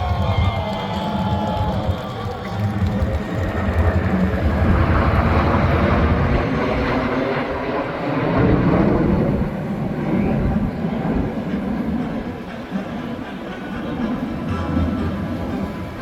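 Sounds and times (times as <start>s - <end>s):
jets flying past: 0.0s - 16.0s.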